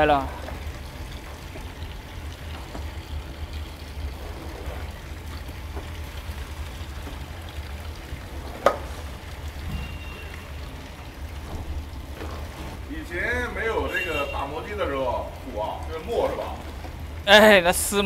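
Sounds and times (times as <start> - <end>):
liquid draining and splashing: 0.0 - 18.0.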